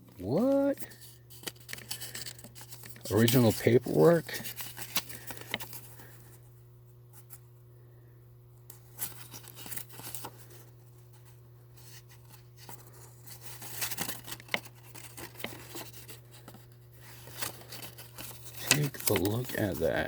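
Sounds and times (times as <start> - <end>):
paper and cardboard rustling: 0.2 - 6.3, 8.8 - 20.0.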